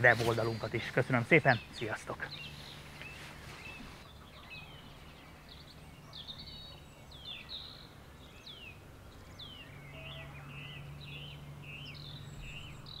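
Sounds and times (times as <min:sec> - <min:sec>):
faint bird chirps: 0:01.6 - 0:13.0.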